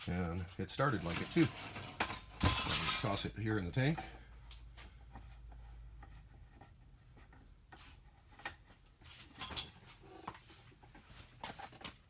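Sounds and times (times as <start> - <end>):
handling clicks knocks and scrapes: 0.0 - 12.0.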